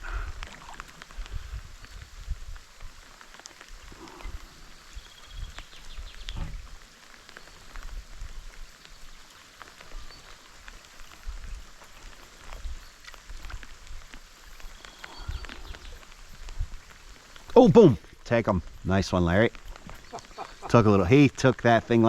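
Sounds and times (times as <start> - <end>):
light rain drops ticking: 0.0 - 22.0.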